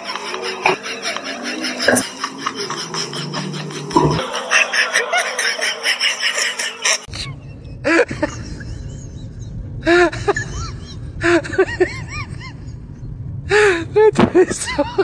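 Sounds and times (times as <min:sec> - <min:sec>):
steady low rumble: 0:00.0 - 0:04.4, 0:07.1 - 0:15.0.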